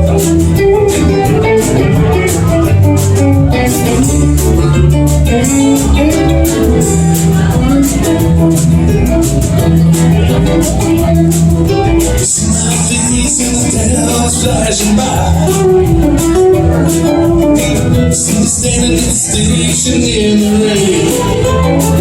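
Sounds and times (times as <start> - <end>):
live band instrumental: 0.0 - 22.0.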